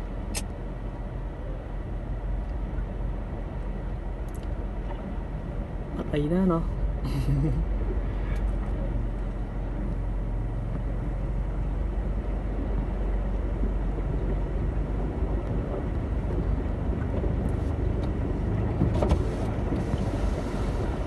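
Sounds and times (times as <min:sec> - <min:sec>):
vehicle rumbling through water: 0:00.0 - 0:21.0.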